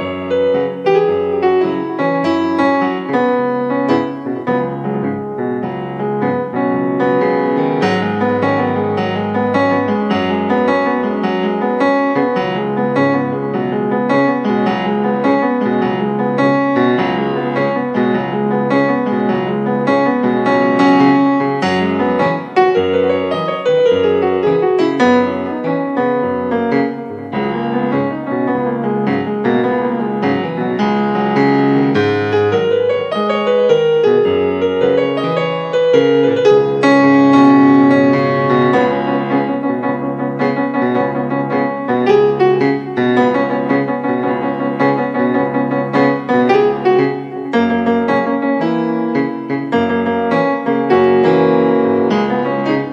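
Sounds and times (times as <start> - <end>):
keyboard piano music: 0.0 - 52.9.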